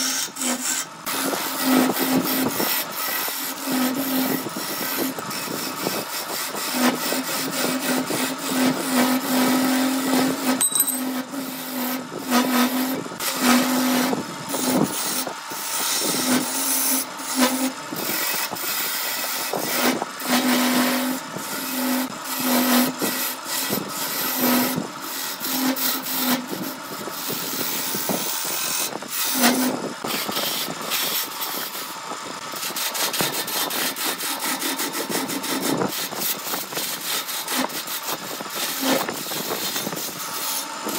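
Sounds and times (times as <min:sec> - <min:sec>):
gouge scraping wood on lathe: 0:00.0 - 0:40.9.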